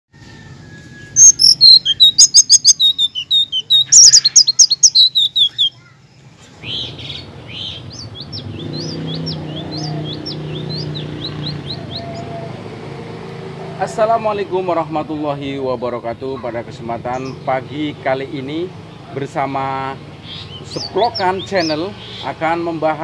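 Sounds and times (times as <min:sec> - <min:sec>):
songbird chirping: 0:00.2 - 0:23.0.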